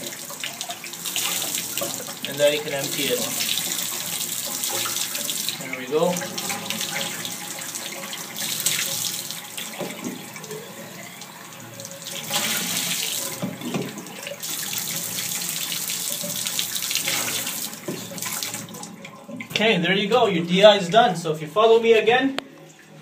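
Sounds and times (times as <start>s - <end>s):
faucet water splashing: 0.0s - 21.1s.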